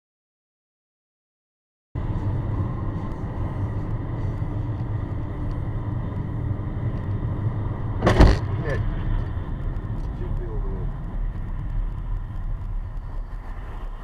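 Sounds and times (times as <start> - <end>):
car rumbling while driving: 2.0 - 14.0.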